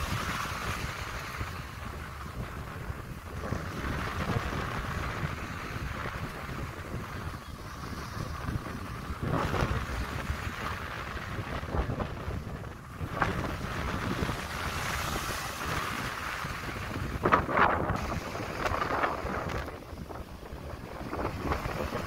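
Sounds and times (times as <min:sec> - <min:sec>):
small waves breaking on beach: 0:00.0 - 0:22.0
wind rumbling on microphone: 0:00.0 - 0:22.0.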